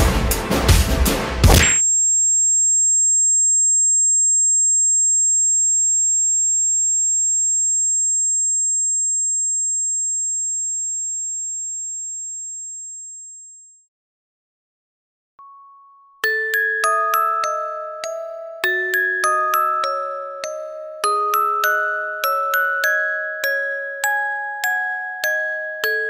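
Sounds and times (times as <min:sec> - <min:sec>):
high-pitched ear-ringing tone: 0:01.6 - 0:13.8, 0:15.4 - 0:26.0.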